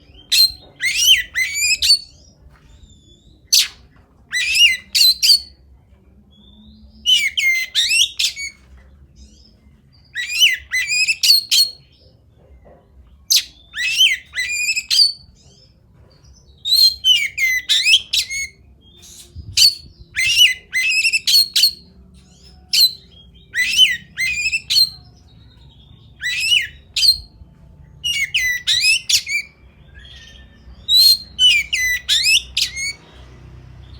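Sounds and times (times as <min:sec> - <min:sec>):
bird singing sharp phrases: 0:00.0 - 0:05.6, 0:06.3 - 0:12.1, 0:13.2 - 0:33.9.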